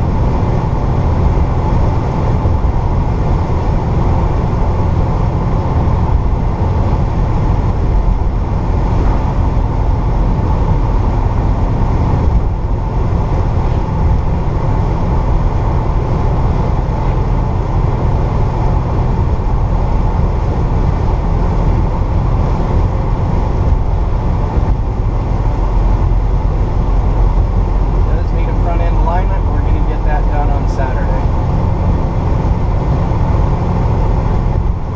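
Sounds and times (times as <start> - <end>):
car engine cruising drone: 0.0 - 34.9
road noise: 0.0 - 34.9.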